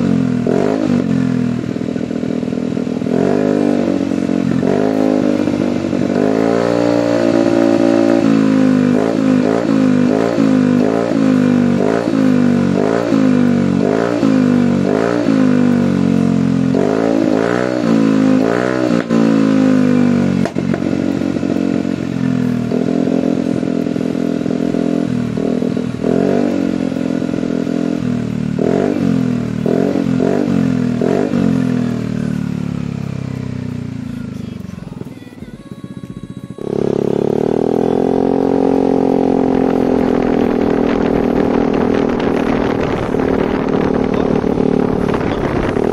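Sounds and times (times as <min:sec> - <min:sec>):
exhaust popping: 0:00.0 - 0:45.9
scooter engine revving: 0:00.0 - 0:45.9.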